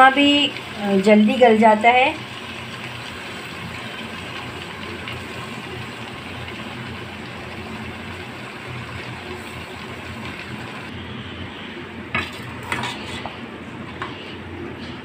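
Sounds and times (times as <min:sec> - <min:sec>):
stove humming and hissing: 0:00.0 - 0:15.0.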